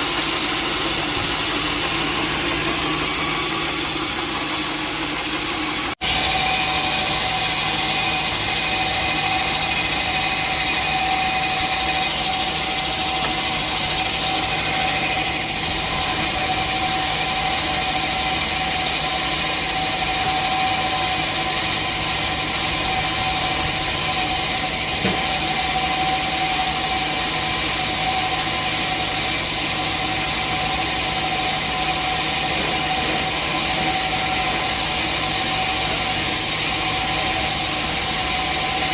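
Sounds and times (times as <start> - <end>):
high machine whine: 0.0 - 38.9
sawmill engine drone: 0.0 - 38.9.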